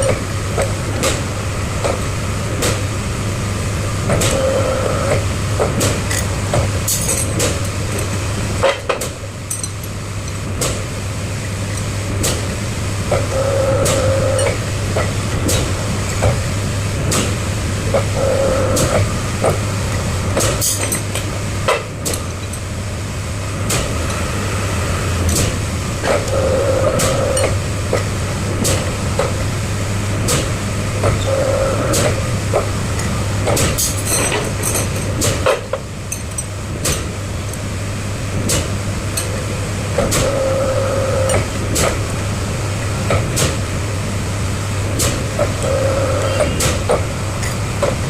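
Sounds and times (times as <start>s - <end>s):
heavy machine engine running: 0.0s - 48.0s.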